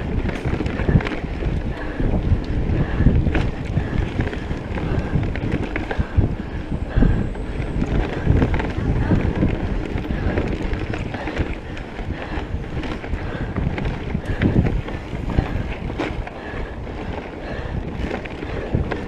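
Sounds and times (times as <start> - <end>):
bike rattling and clicking: 0.0 - 19.0
tyres rumbling on dirt trail: 0.0 - 19.0
wind buffeting microphone: 0.0 - 19.0.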